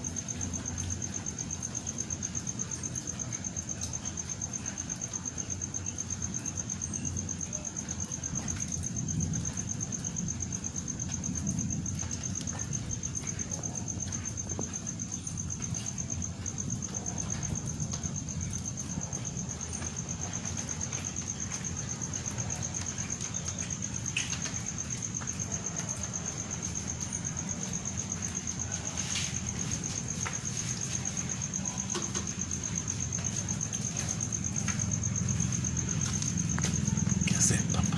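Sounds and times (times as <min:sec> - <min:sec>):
continuous low noise: 0:00.0 - 0:37.9
cricket trilling: 0:00.0 - 0:37.9.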